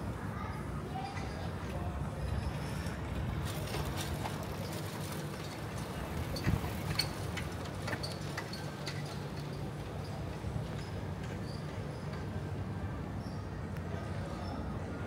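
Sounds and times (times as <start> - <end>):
low street hum: 0.0 - 15.0.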